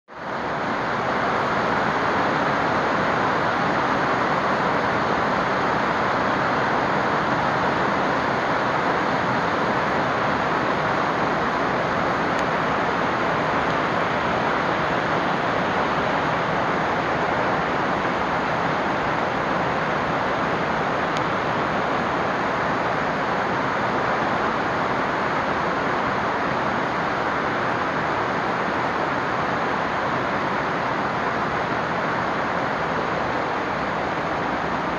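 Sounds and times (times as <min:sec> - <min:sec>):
heavy rain on fabric roof: 0:00.1 - 0:34.9.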